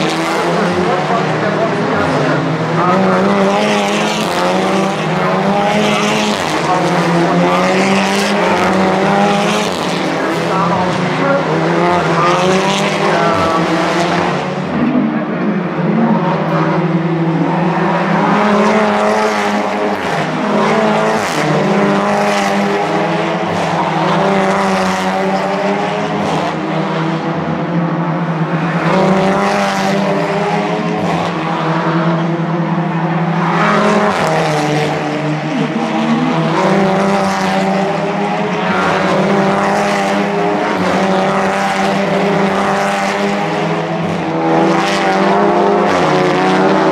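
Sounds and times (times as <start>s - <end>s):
race car engines: 0.0s - 46.9s.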